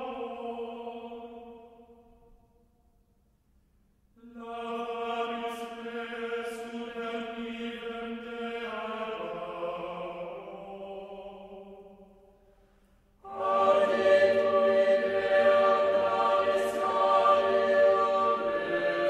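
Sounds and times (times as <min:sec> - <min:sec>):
choir singing sustained chords: 0:00.0 - 0:02.4, 0:04.2 - 0:19.0.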